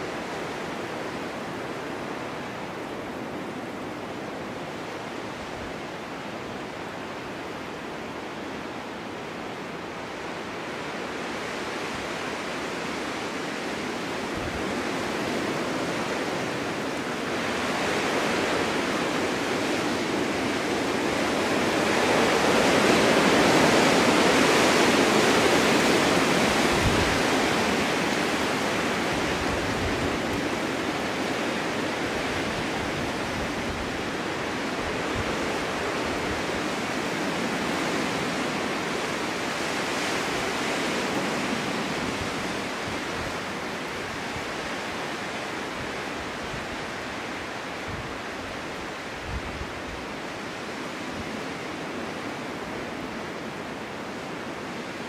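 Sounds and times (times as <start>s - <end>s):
snowstorm wind rushing: 9.0s - 55.0s.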